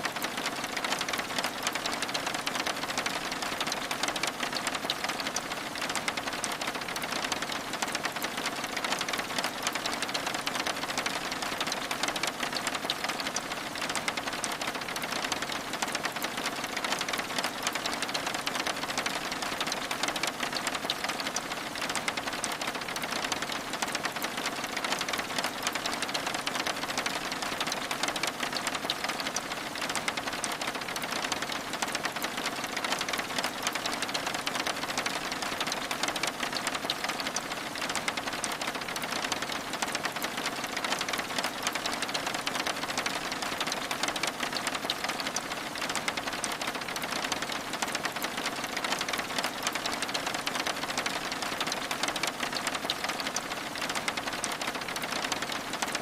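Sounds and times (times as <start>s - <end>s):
rain on window glass: 0.0s - 56.0s.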